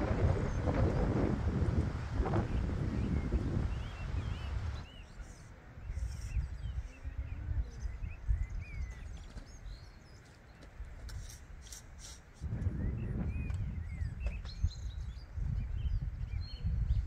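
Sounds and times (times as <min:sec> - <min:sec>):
wind buffeting microphone: 0:00.0 - 0:11.6, 0:12.4 - 0:17.0
small songbirds chirping: 0:00.0 - 0:17.0.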